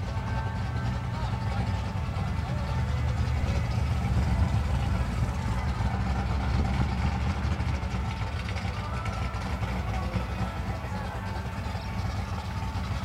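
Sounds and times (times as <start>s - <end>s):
car engines idling: 0.0s - 13.0s.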